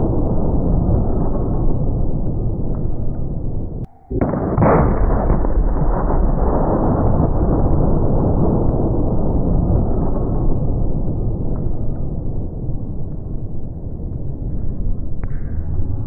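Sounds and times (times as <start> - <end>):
gun firing deep blast: 0.0 - 12.9
long low rumble: 0.0 - 16.0.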